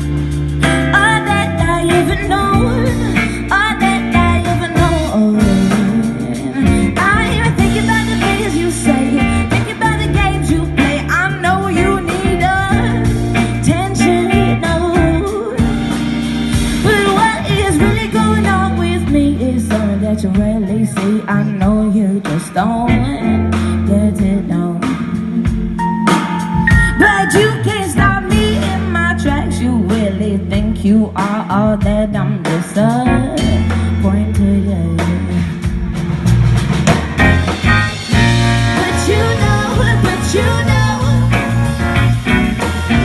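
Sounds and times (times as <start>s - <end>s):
pop song with singing: 0.0s - 16.0s, 16.7s - 35.8s, 38.1s - 43.0s.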